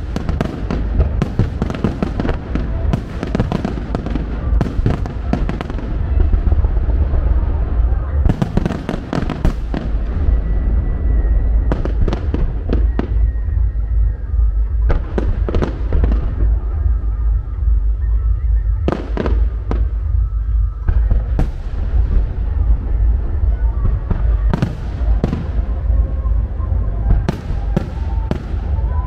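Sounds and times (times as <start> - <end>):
continuous low rumble: 0.0 - 29.0
fireworks bursting: 0.0 - 29.0.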